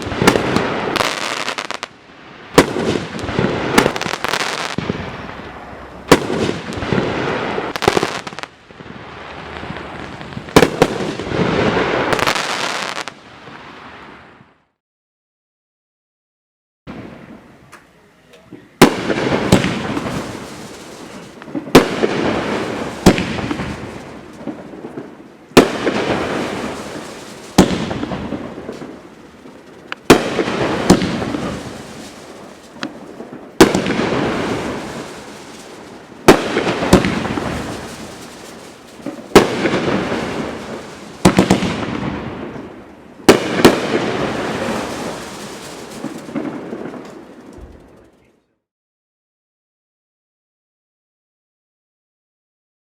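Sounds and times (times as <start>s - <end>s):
fireworks bangs: 0.0s - 14.4s, 16.9s - 48.2s
fireworks crackle: 0.0s - 14.5s, 16.9s - 48.4s.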